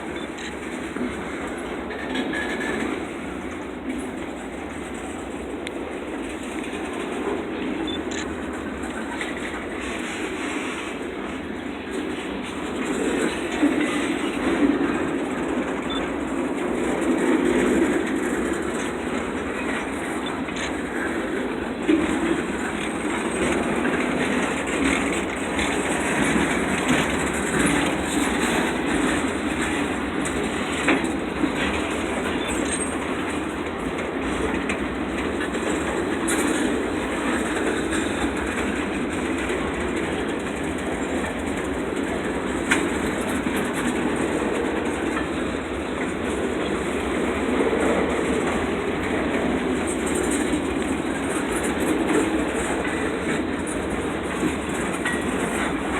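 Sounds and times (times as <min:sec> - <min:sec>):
wheels clacking over rail joints: 0:00.0 - 0:10.8, 0:11.4 - 0:55.9
freight train rumbling past: 0:00.0 - 0:55.9.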